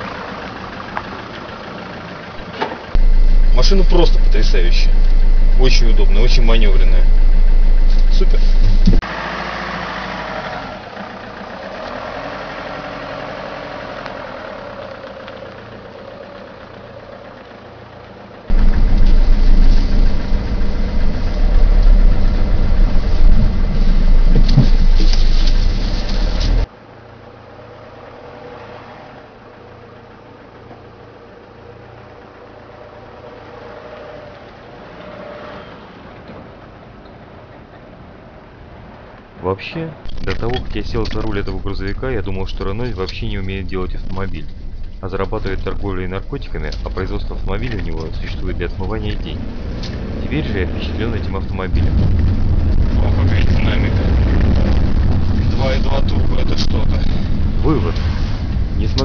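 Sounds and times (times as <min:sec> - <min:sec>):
truck diesel engine running: 0:00.0 - 0:33.7, 0:40.0 - 0:59.0
loud close-up engine rumble: 0:00.0 - 0:35.0, 0:40.0 - 0:59.0.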